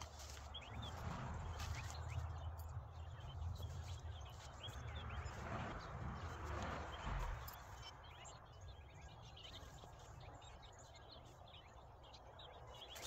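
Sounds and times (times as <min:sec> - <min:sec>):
low background rumble: 0:00.0 - 0:12.6
birds chirping: 0:00.0 - 0:13.0.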